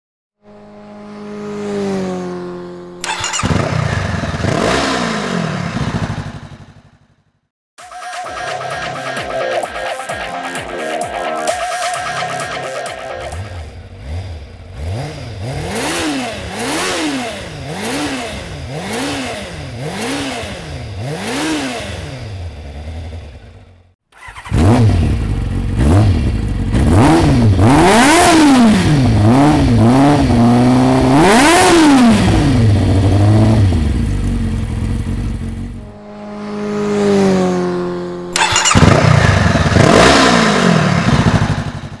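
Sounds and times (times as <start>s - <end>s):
motorcycle engine revving: 0.4s - 9.2s, 11.2s - 42.0s.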